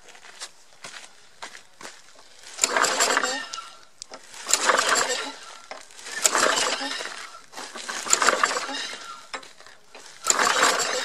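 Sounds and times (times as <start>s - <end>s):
recoil starter cord pulls: 2.2s - 11.0s.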